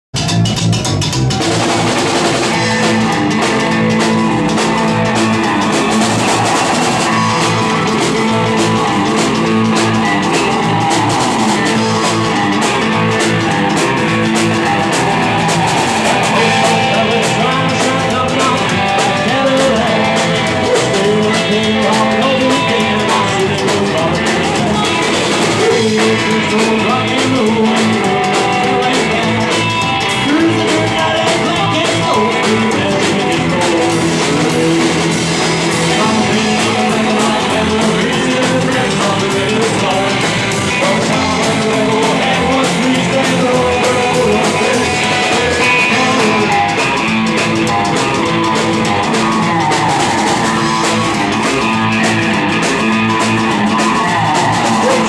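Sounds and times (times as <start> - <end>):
drum kit: 0.1 - 55.0
upright double bass: 0.1 - 55.0
electric guitar: 0.2 - 55.0.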